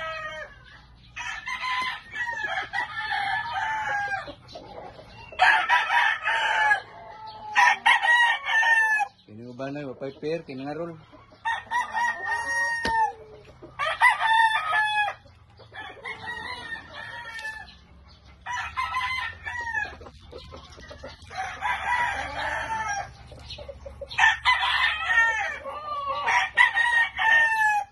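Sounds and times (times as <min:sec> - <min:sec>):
roosters crowing: 0:00.0 - 0:09.7, 0:10.8 - 0:27.9.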